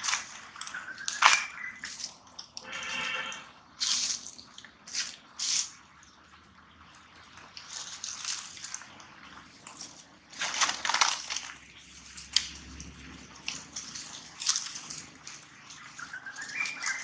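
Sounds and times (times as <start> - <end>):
dry leaves rustling and crackling: 0.0 - 5.9, 7.4 - 17.0.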